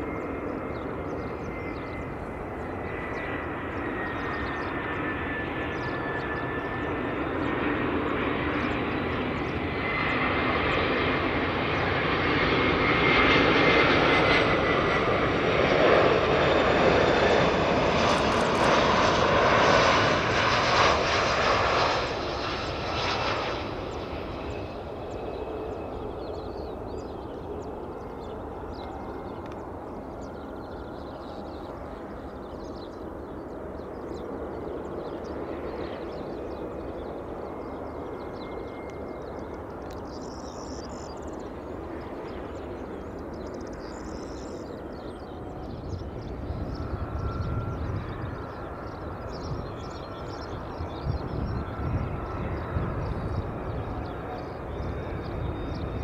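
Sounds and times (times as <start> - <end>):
jet engines roaring: 0.0 - 56.0
thin steady jet whine: 0.0 - 56.0.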